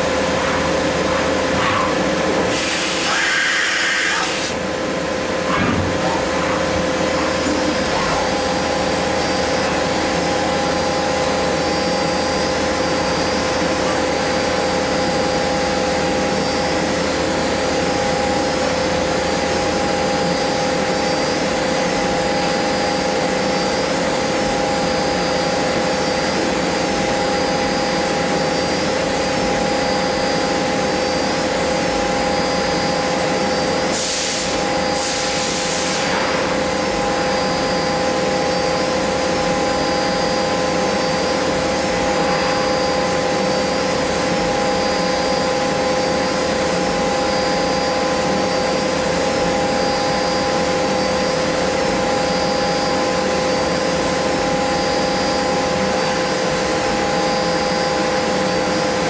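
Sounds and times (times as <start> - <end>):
machine spindle whine: 0.0 - 59.0.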